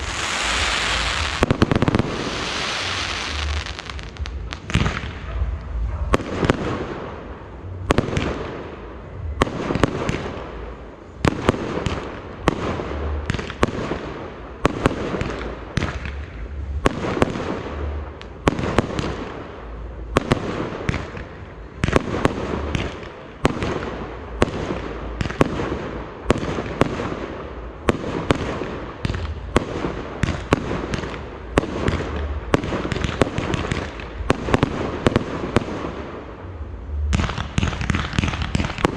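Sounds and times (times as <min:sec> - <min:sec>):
fireworks bangs: 0:00.0 - 0:19.5, 0:20.1 - 0:38.9
rumble and echo: 0:00.0 - 0:38.9.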